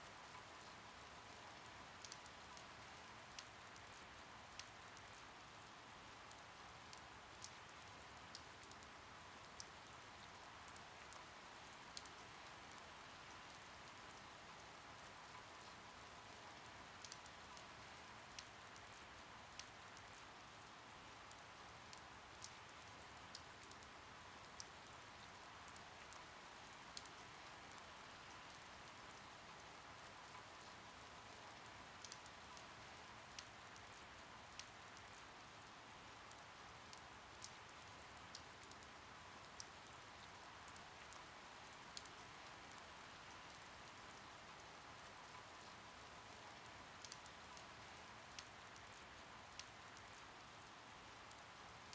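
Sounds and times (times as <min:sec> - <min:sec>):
faint steady rain: 0:00.0 - 0:51.9.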